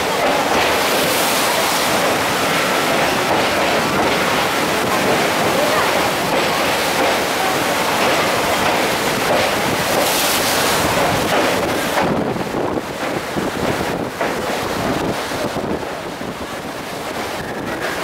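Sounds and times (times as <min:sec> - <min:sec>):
rough sea surf churning: 0:00.0 - 0:18.0
wind buffeting microphone: 0:00.0 - 0:18.0.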